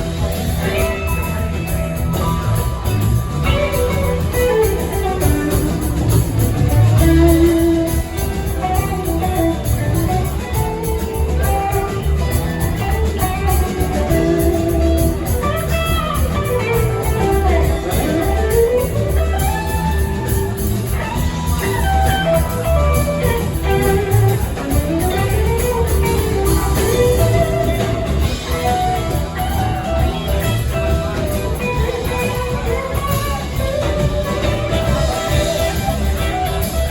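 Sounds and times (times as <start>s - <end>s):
bass and drums: 0.0s - 36.9s
electric guitar lead: 0.0s - 36.9s.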